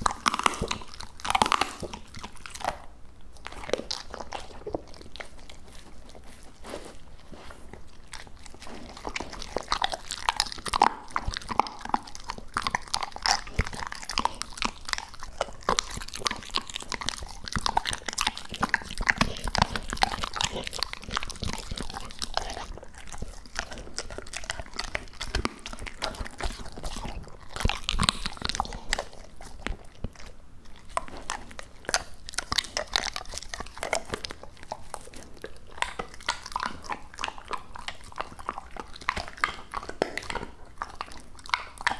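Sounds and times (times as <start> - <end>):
dog chewing and crunching: 0.0 - 41.9.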